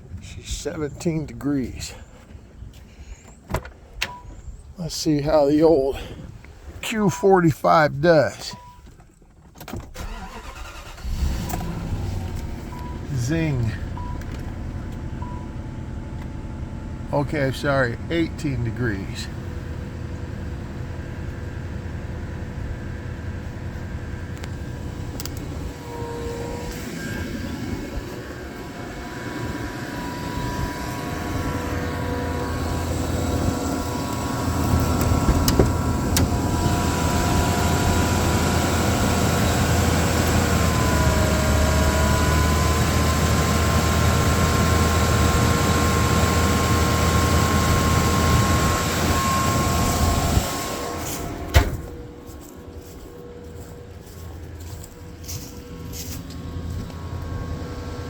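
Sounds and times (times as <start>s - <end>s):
car engine fast idle whine: 10.0s - 58.0s.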